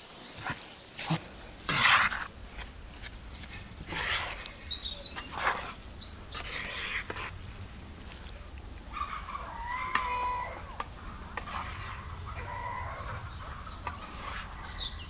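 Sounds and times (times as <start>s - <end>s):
long steady bird call: 0.0s - 15.0s
small birds chirping: 0.0s - 15.0s.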